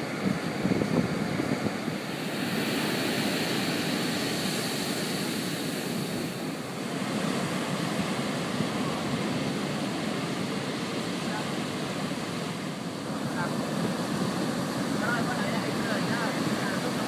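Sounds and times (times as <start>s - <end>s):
surf breaking on a beach: 0.0s - 17.0s.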